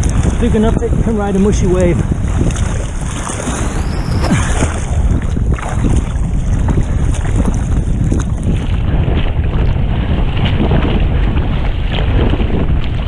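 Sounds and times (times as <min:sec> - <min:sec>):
ocean surf sloshing: 0:00.0 - 0:13.0
wind buffeting microphone: 0:00.0 - 0:13.0.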